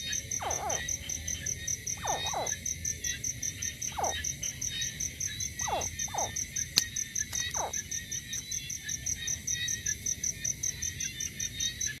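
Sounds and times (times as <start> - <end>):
crickets chirping: 0.0 - 12.0
high insect drone: 0.0 - 12.0.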